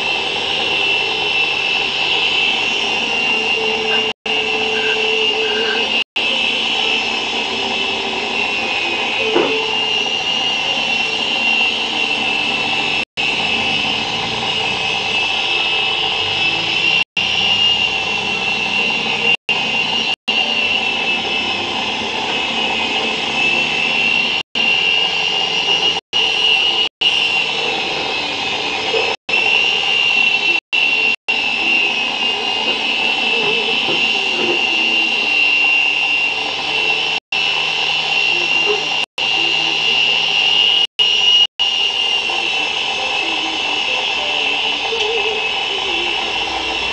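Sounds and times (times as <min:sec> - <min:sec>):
toy helicopter rotor whine: 0:00.0 - 0:46.9.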